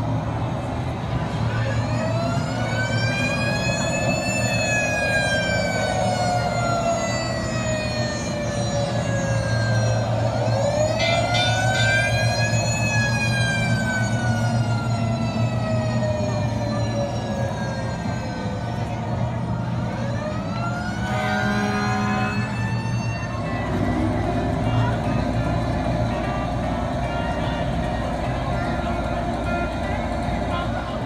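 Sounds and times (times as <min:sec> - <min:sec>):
fire truck siren wailing: 0:00.0 - 0:31.0.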